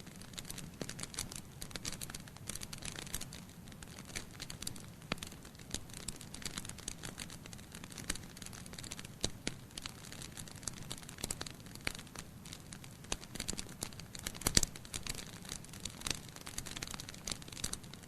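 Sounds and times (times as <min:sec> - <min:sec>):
logs crackling and popping: 0:00.0 - 0:18.0.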